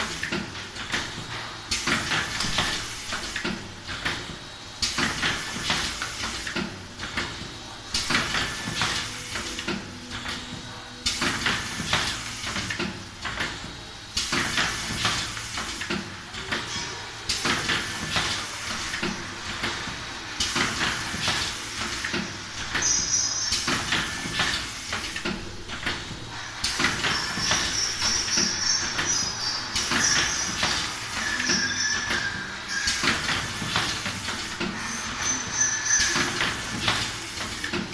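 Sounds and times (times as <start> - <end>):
capsule machine hiss and clatter: 0.0 - 37.9.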